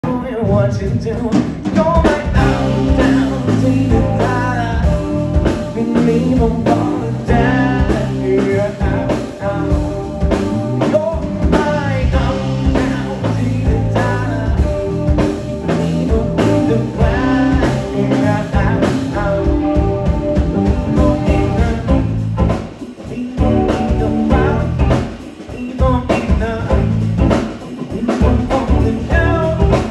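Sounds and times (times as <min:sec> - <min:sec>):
drum kit beat: 0:00.0 - 0:29.9
electric guitar: 0:00.0 - 0:29.9
bass guitar riff: 0:00.4 - 0:25.2, 0:25.8 - 0:29.9.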